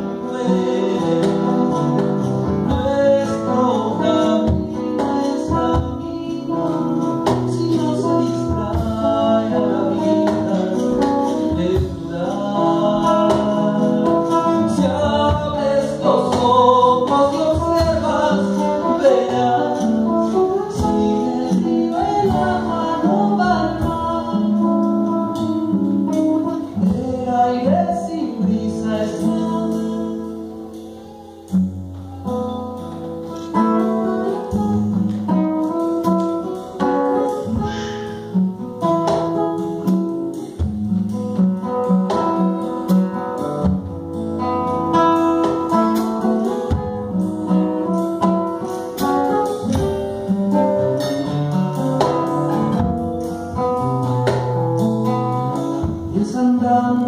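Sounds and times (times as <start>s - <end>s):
person singing: 0.0s - 43.6s, 44.5s - 57.0s
acoustic guitar: 0.0s - 57.0s.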